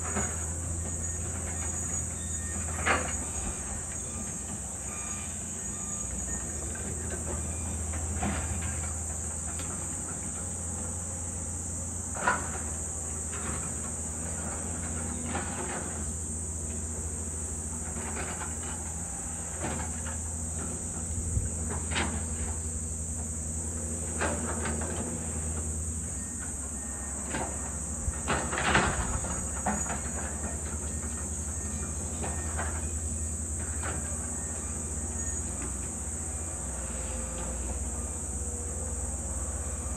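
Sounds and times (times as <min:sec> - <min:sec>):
distant heavy machinery humming: 0:00.0 - 0:39.9
high-pitched insect drone: 0:00.1 - 0:16.2, 0:17.1 - 0:39.9.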